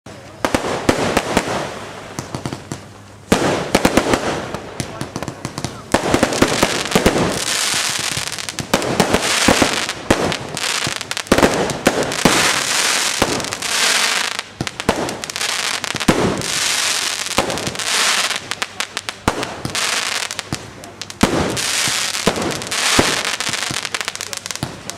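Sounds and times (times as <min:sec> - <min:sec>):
fireworks bangs: 0:00.1 - 0:24.9
fireworks crackling hiss: 0:00.1 - 0:24.9.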